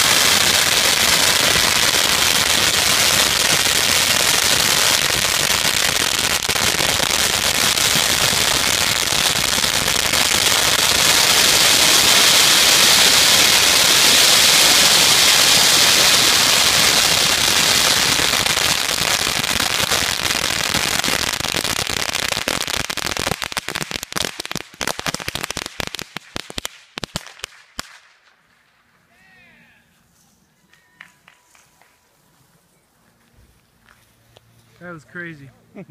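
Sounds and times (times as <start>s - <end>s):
firecrackers crackling: 0.0s - 29.1s.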